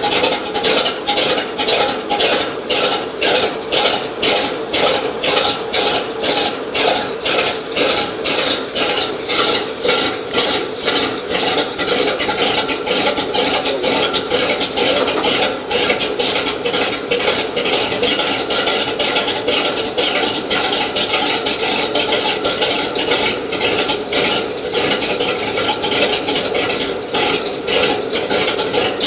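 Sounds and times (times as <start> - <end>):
truck engine turning over: 0.0 - 29.0.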